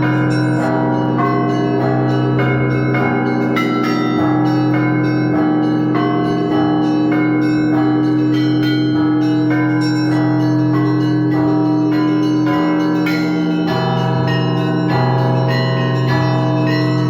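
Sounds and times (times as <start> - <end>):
hum of large bells: 0.0 - 17.0
small bells striking quickly: 0.0 - 17.0.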